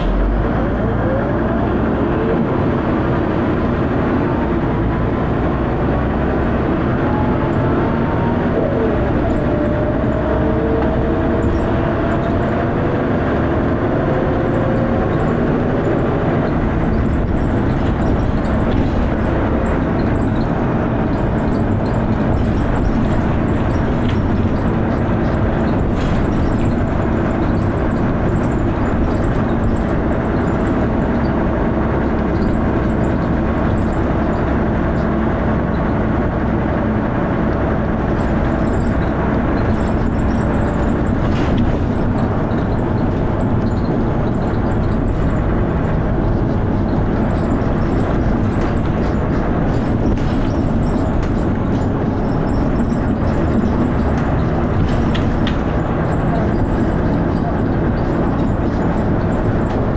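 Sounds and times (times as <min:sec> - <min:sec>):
bus diesel engine: 0:00.0 - 0:59.9
road and body noise: 0:00.0 - 0:59.9.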